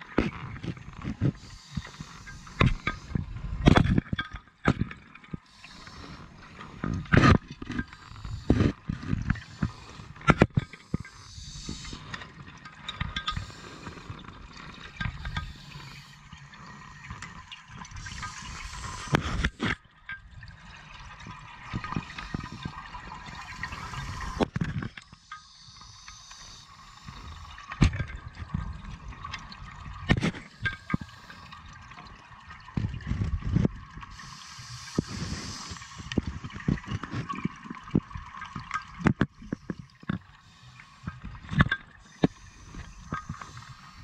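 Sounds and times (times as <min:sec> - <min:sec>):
underwater exhaled bubbles: 0:00.0 - 0:44.0.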